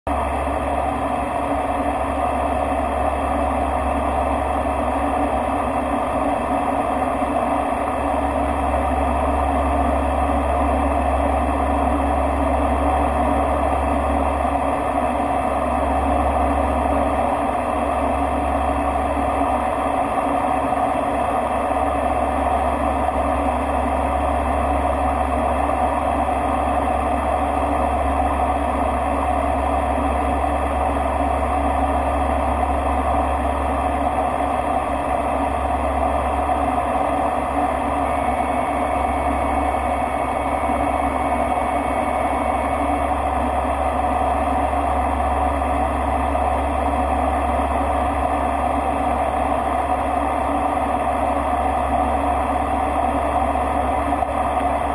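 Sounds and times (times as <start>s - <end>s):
turboprop engines droning: 0.1s - 54.9s.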